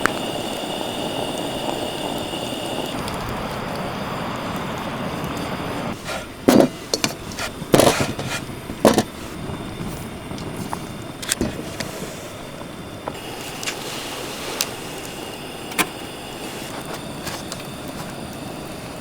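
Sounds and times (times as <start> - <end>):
steak sizzling over wood fire: 0.0 - 19.0.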